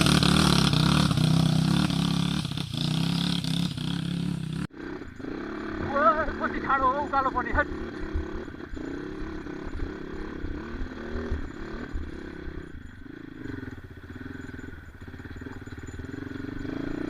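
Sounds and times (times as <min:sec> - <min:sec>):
motorcycle engine climbing: 0:00.0 - 0:17.0.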